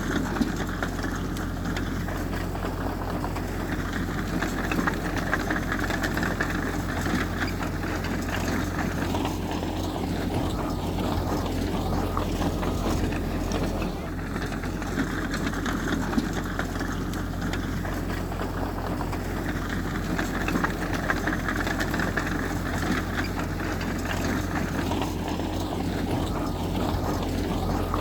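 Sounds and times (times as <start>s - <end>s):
diesel engine running steadily: 0.0s - 28.0s.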